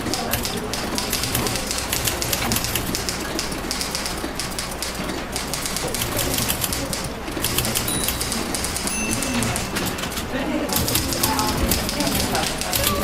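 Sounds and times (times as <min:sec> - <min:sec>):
typewriters clattering: 0:00.0 - 0:13.0.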